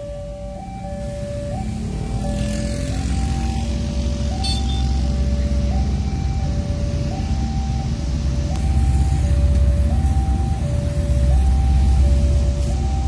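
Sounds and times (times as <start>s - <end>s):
diesel locomotive rumble: 0.0s - 13.0s
two-tone crossing alarm: 0.0s - 13.0s.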